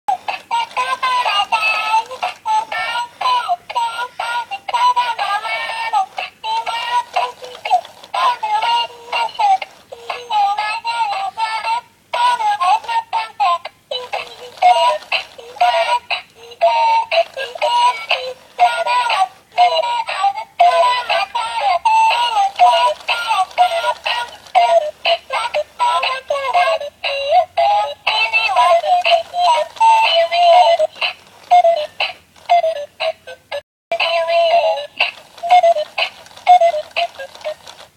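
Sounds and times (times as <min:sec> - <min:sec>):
toy playing synthesized song: 0:00.1 - 0:37.9.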